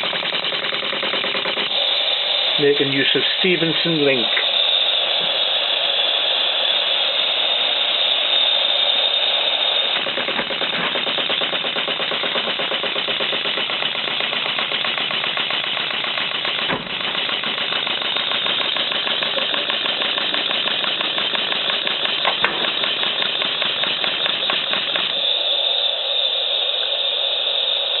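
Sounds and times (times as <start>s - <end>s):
model steam engine beating: 0.0s - 28.0s
steady steam hiss: 1.7s - 15.4s, 16.0s - 28.0s.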